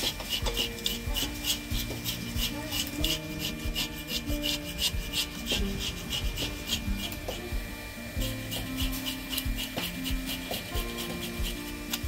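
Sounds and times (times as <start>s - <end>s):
knife scraping fish scales: 0.0s - 7.6s, 8.2s - 12.0s.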